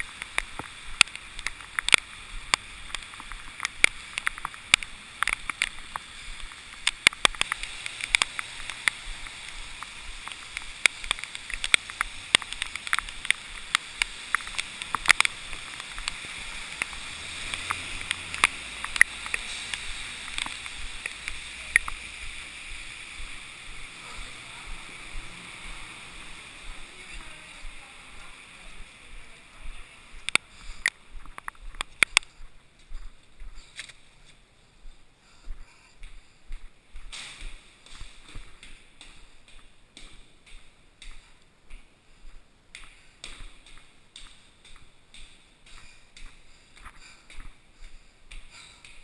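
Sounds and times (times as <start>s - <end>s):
rustling hiss: 0.0s - 49.0s.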